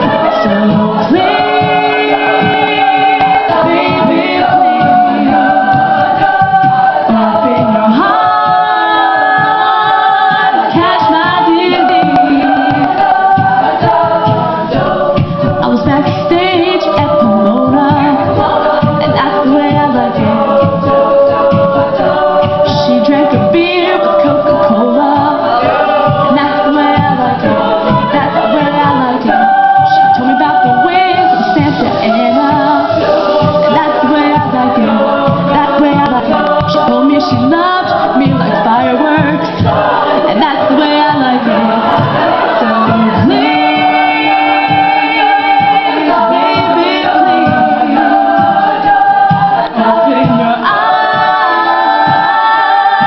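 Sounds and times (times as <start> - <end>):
vocal group singing a cappella: 0.0 - 53.0.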